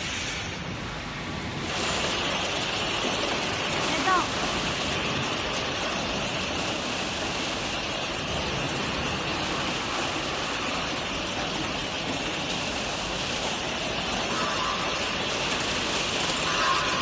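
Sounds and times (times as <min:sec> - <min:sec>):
conveyor machinery rattling: 0:00.0 - 0:17.0.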